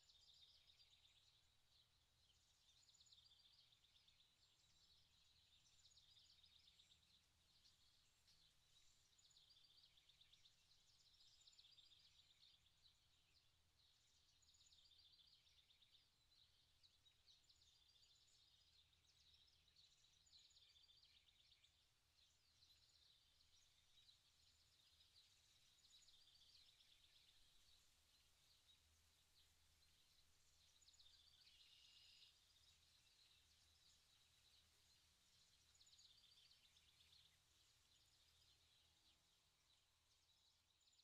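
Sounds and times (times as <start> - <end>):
small birds twittering: 0.0 - 41.0.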